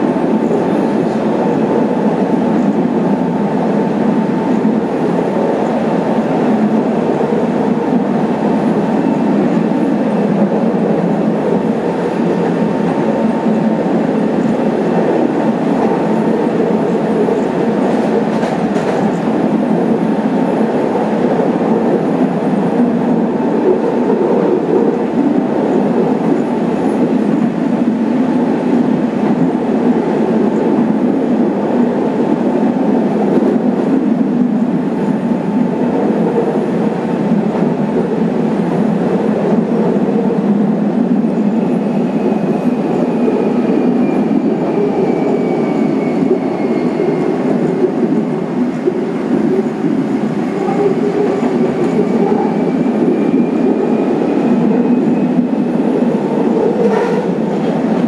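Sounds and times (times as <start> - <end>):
tram rolling along track: 0.0 - 58.0.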